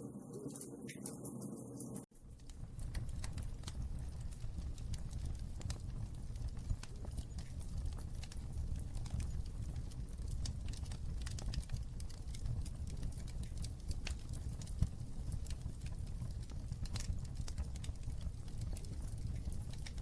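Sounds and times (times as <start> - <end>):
wood fire crackling: 0.1 - 20.0.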